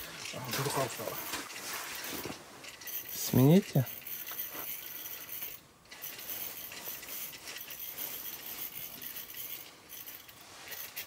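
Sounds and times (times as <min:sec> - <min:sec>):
fishing reel clicking: 0:00.0 - 0:01.6, 0:02.6 - 0:11.0
faint rustle: 0:00.0 - 0:11.0.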